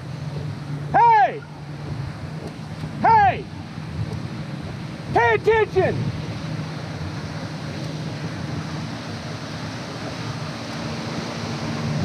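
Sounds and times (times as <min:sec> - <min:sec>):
motorboat engine drone: 0:00.0 - 0:12.0
water wash: 0:00.0 - 0:12.0
wind noise: 0:01.7 - 0:12.0.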